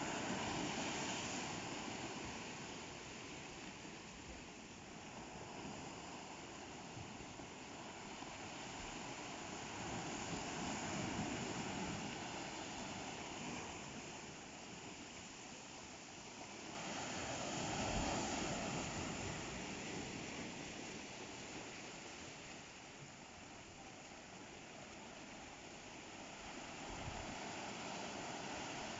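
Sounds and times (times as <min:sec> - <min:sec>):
ocean waves breaking: 0:00.0 - 0:28.9.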